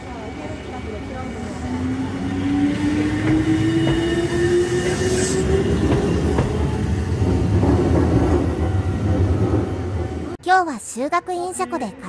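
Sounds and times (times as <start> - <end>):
wheels rumbling on rails: 0.0 - 10.4.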